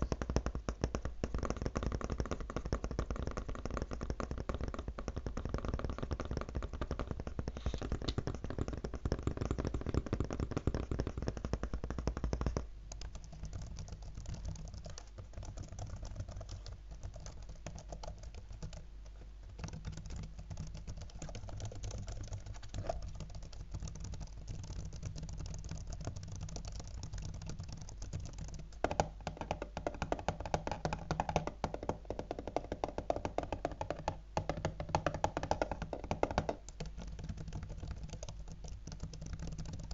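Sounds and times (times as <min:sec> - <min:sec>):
fingertips tapping on laptop: 0:00.0 - 0:39.9.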